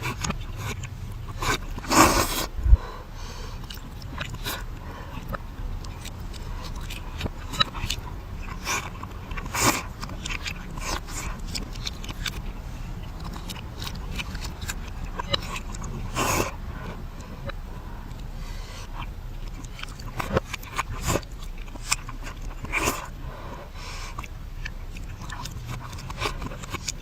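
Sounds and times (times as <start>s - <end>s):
reversed chewing clicks: 0.0s - 2.8s, 3.5s - 27.0s
mouth noises: 0.0s - 27.0s.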